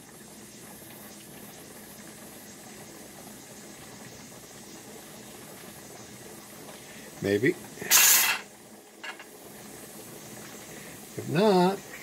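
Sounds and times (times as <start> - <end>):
steam hissing from vent: 0.0 - 12.0.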